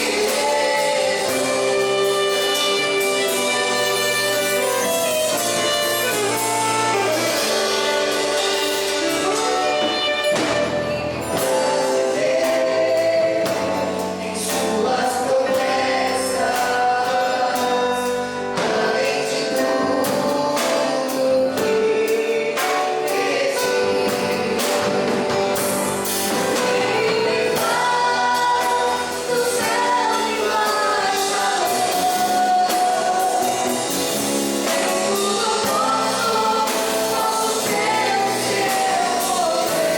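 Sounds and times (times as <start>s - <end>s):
instrumental accompaniment with beat: 0.0s - 39.9s
voices singing gospel: 0.0s - 39.9s.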